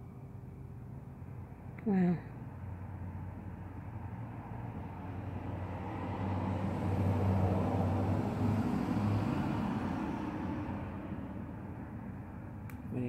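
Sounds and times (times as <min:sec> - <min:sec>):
vehicle passing by: 0:02.4 - 0:13.0.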